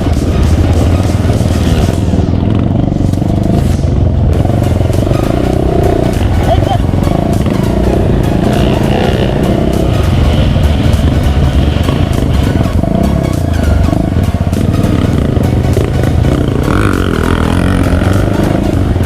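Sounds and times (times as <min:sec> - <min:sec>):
off-road vehicle engine running: 0:00.0 - 0:19.0.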